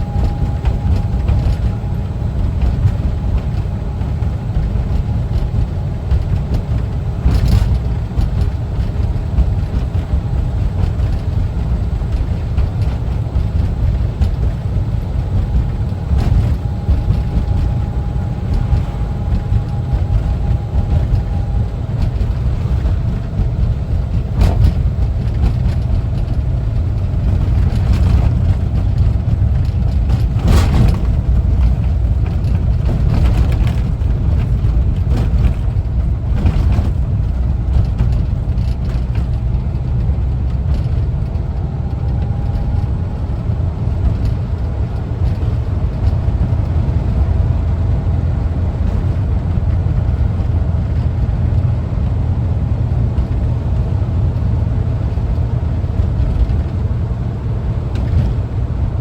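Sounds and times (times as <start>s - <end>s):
engine rumbling while driving: 0.0s - 59.0s
road noise: 0.0s - 59.0s.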